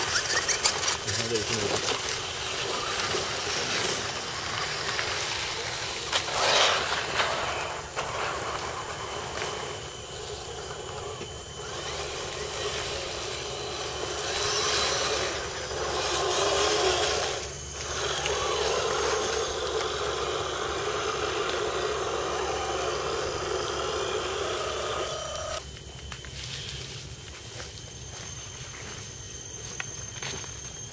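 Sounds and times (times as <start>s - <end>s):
electric motors whining: 0.0s - 30.9s.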